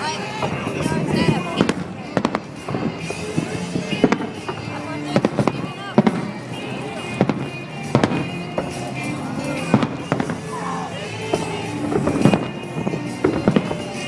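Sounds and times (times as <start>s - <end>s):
fireworks banging and crackling: 0.0s - 14.0s.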